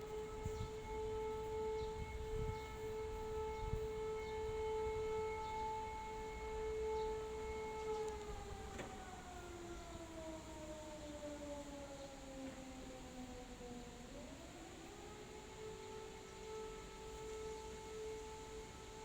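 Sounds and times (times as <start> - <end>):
civil defense siren: 0.0 - 19.0.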